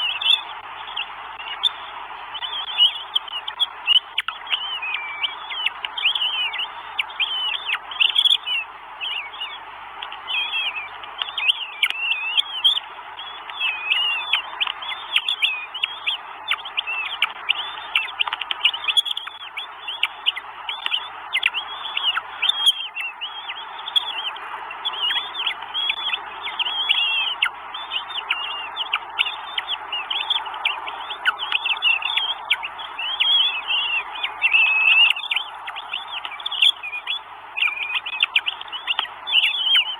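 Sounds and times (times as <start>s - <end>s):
chicks cheeping: 0.0s - 39.9s.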